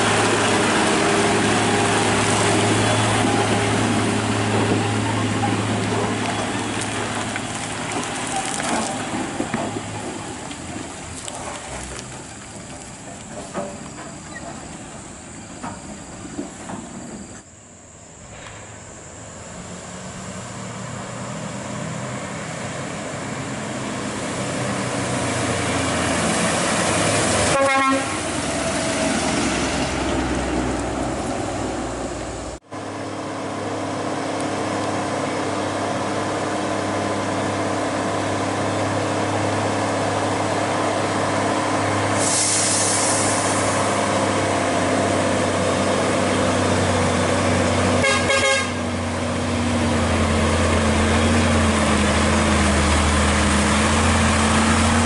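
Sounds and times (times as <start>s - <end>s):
diesel truck rumbling past: 0.0s - 55.0s
truck approaching: 0.0s - 55.0s.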